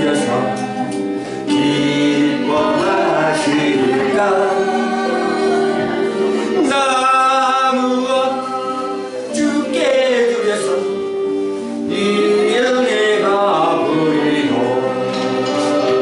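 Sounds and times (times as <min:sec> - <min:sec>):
instrumental accompaniment: 0:00.0 - 0:16.0
man singing a hymn: 0:00.0 - 0:16.0.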